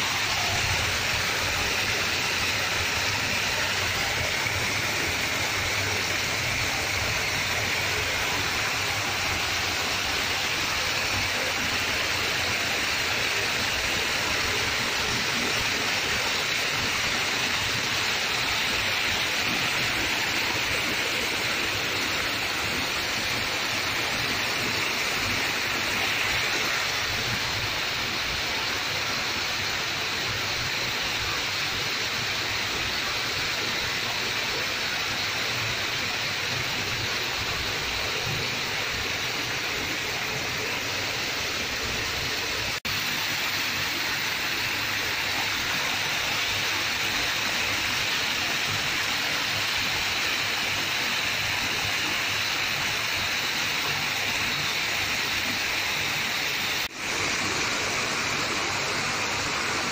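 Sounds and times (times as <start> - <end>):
water rushing over dam: 0.0 - 59.9.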